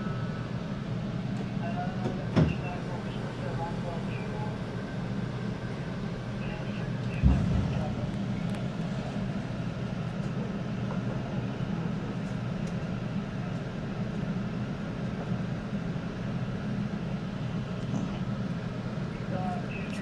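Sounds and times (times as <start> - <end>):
train rumbling on rails: 0.0 - 19.8.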